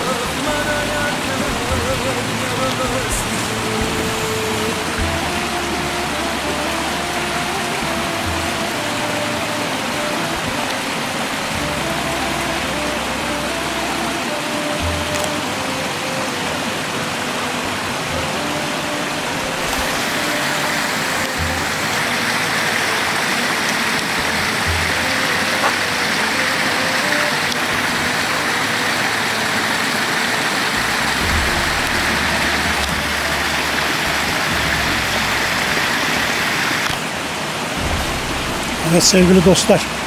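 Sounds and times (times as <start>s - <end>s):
running water rushing: 0.0s - 40.0s.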